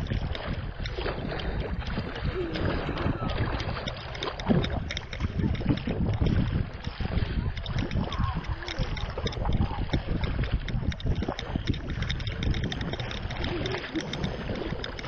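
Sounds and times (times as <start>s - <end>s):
water sloshing and splashing: 0.0s - 15.0s
wind on microphone: 0.0s - 15.0s.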